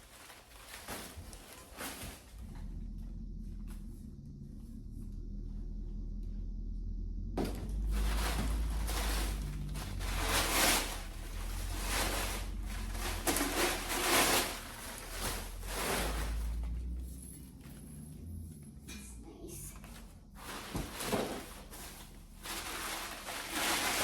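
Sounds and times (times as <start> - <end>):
rustling and scraping of furniture parts: 0.0 - 24.0
low steady hum: 0.1 - 24.0.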